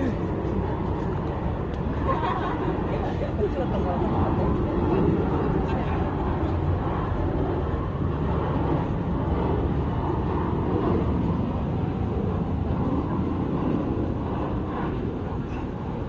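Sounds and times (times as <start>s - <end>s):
jet airliner engines rumbling: 0.0s - 16.0s.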